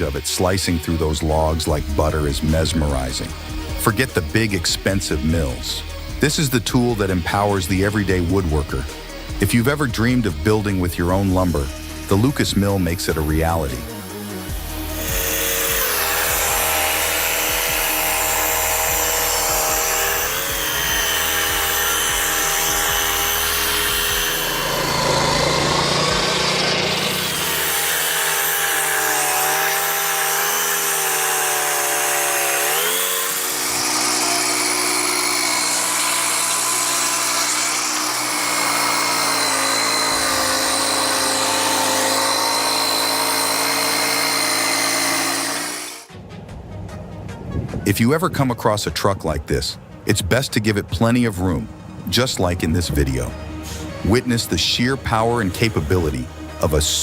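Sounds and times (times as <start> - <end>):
sawmill engine cutting log: 0.0 - 46.1, 50.8 - 57.0.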